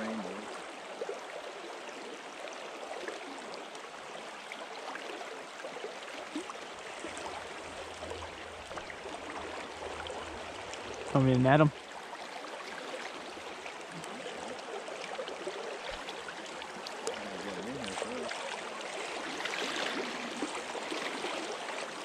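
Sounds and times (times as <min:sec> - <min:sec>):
stream current rushing: 0:00.0 - 0:22.0.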